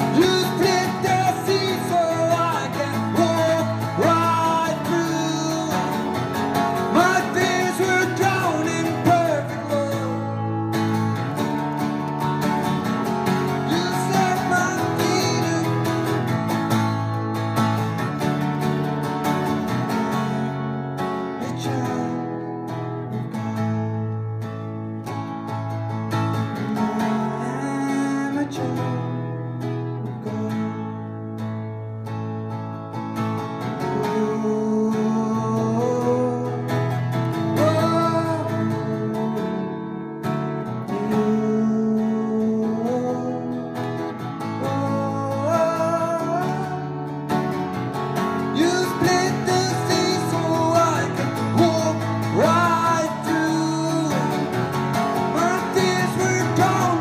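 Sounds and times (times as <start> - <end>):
man singing: 0.0 - 18.2, 21.2 - 24.3, 26.4 - 31.4, 33.6 - 57.0
acoustic guitar strumming: 0.0 - 57.0.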